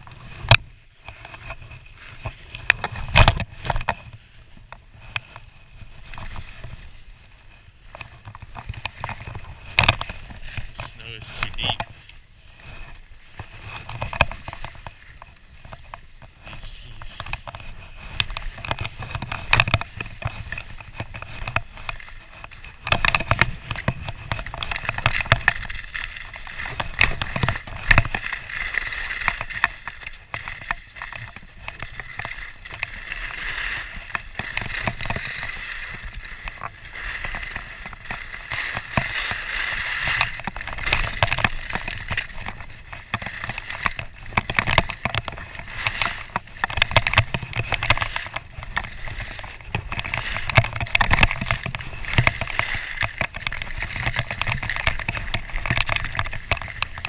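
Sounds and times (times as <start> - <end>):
skis knocking over bumps: 0.0 - 57.0
skis scraping over snow: 0.0 - 57.0.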